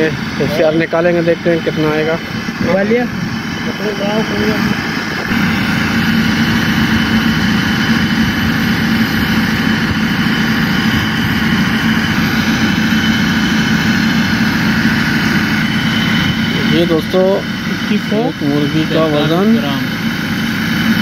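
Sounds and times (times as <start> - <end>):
machine droning: 0.0 - 21.0.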